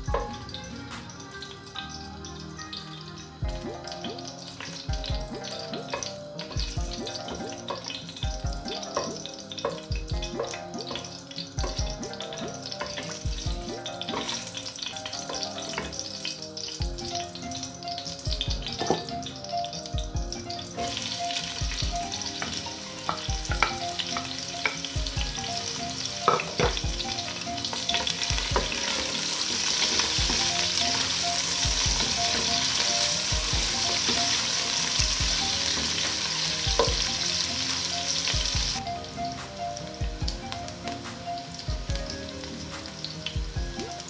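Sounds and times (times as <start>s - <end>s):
onions sizzling: 0.0s - 44.0s
spices frying in hot oil: 0.0s - 44.0s.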